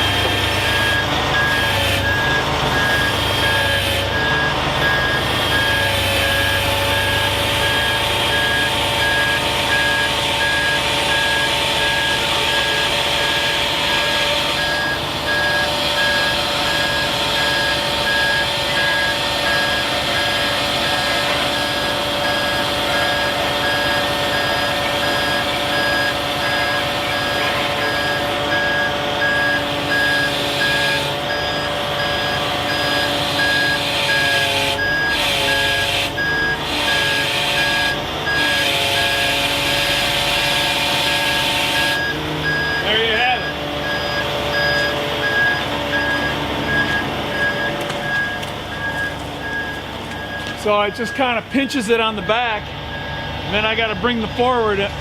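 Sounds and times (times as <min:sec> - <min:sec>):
machinery whine: 0:00.0 - 0:55.0
truck backup alarm beeping: 0:00.0 - 0:55.0
truck engine running: 0:00.0 - 0:55.0.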